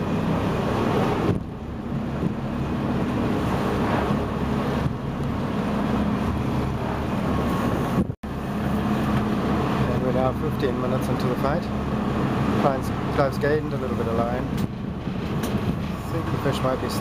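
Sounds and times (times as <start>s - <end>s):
boat engine running: 0.0s - 17.0s
wind and sea noise: 0.0s - 17.0s.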